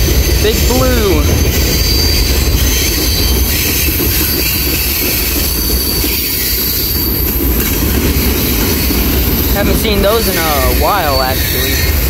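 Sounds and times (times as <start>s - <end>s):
high wheel squeal: 0.0s - 12.0s
train wheels rumbling on rails: 0.0s - 12.0s.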